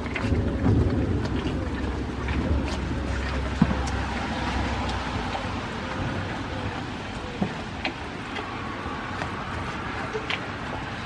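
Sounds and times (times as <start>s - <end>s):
sharp drip-like ticks: 0.0s - 11.0s
steady rain falling: 0.0s - 11.0s.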